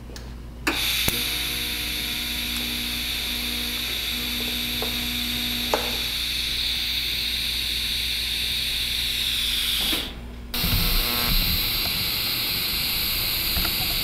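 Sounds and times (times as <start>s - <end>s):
welding arc hissing: 0.7s - 14.0s.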